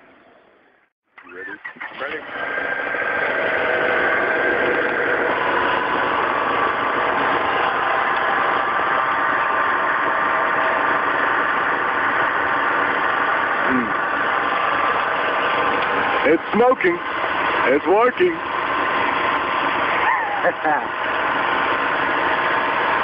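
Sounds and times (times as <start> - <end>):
engine idling: 0.5 - 23.0.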